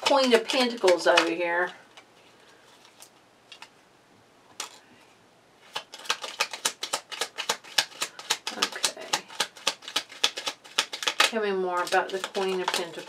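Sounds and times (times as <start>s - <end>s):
cards being shuffled: 0.0s - 3.7s, 5.6s - 13.0s.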